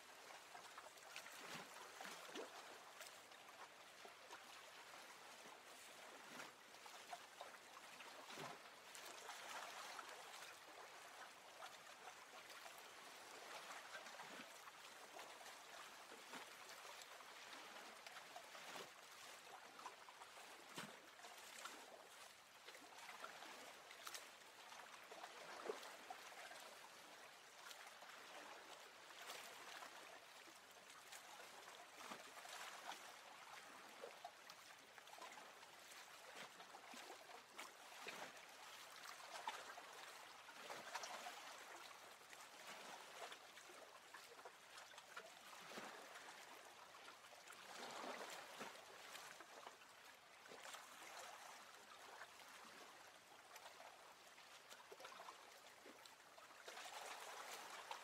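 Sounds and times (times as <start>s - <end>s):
small water splashes: 0.0s - 58.0s
water lapping and trickling: 0.0s - 58.0s.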